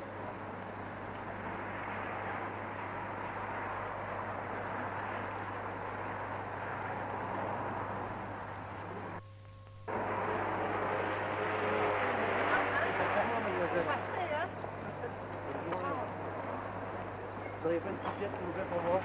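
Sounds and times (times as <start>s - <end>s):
city traffic: 0.0s - 9.2s, 9.8s - 19.0s
constant low hum: 0.0s - 19.0s
faint steady tones: 0.0s - 19.0s.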